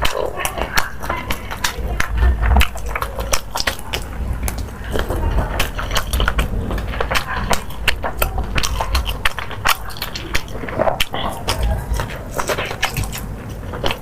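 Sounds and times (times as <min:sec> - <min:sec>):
chewing and mouth smacks: 0:00.0 - 0:14.0.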